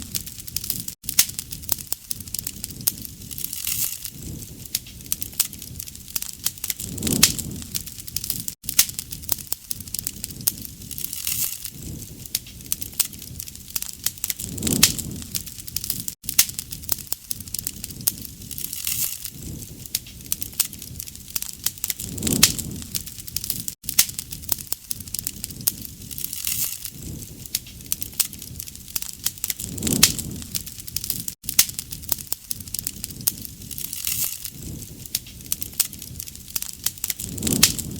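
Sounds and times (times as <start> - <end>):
campfire crackling and popping: 0.0 - 37.9
soft flame rustle: 0.0 - 37.9.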